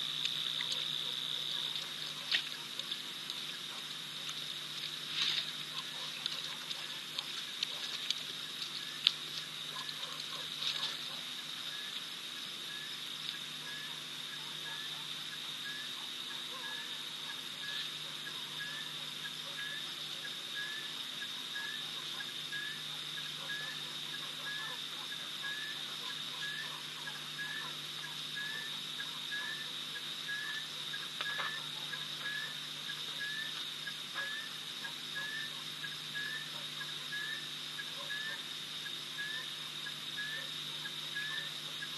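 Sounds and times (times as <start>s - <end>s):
insect chirping: 0.0s - 41.9s
insects trilling: 0.0s - 41.9s.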